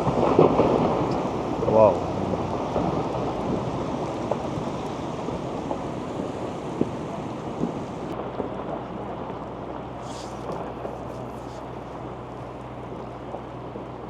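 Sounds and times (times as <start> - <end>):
falling ice rumbling: 0.0 - 12.1.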